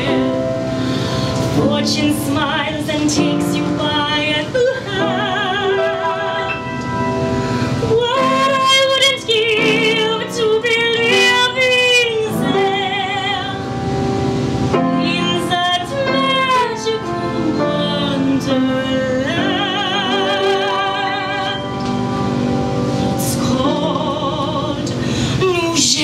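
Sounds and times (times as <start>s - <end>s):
woman singing operatically: 0.0s - 0.4s, 1.6s - 6.8s, 7.9s - 13.6s, 15.0s - 21.7s, 23.2s - 26.0s
grand piano accompaniment: 0.0s - 26.0s.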